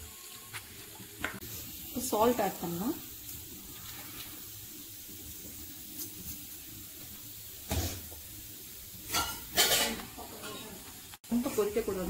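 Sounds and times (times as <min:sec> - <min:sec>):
pan hissing on gas burner: 0:00.0 - 0:12.0.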